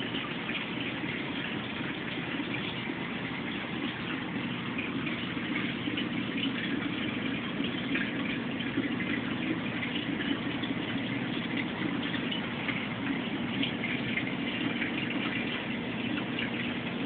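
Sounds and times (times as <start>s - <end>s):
water rushing and trickling: 0.0s - 17.0s.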